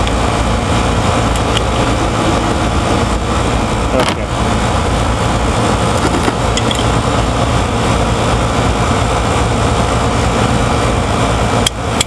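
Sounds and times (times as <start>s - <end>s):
mechanical drone with rushing noise: 0.0s - 12.0s.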